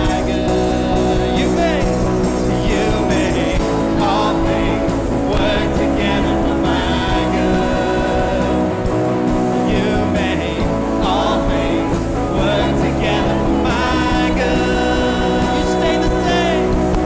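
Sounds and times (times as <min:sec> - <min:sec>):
worship band playing: 0:00.0 - 0:17.0.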